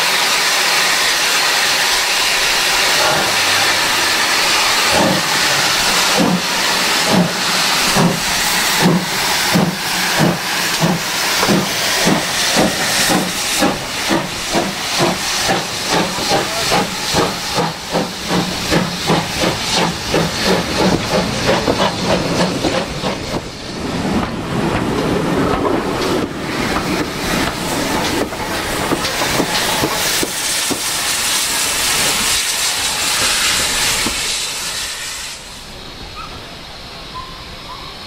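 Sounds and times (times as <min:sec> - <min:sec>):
steam locomotive chuffing: 0:00.0 - 0:38.0
train coaches rolling past: 0:00.0 - 0:38.0.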